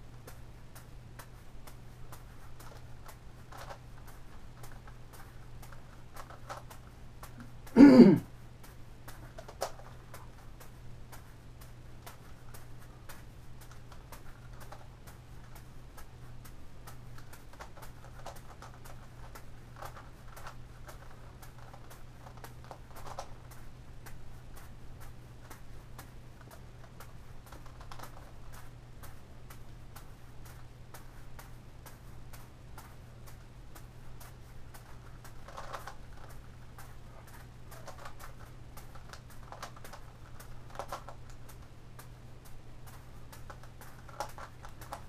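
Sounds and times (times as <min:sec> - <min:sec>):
juggling balls landing in hands: 0:00.0 - 0:45.0
steady low hum: 0:00.0 - 0:45.0
plastic puzzle layers clicking: 0:00.2 - 0:07.8, 0:09.1 - 0:42.1, 0:42.8 - 0:45.0.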